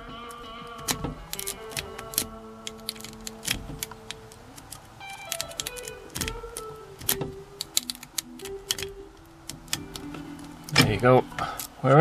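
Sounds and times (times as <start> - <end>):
background music: 0.0 - 12.0
lock pick metallic clicks: 0.8 - 11.0.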